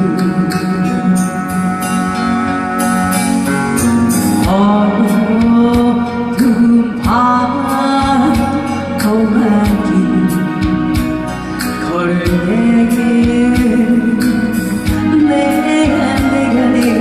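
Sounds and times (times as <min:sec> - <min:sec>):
backing music with steady beat: 0:00.0 - 0:17.0.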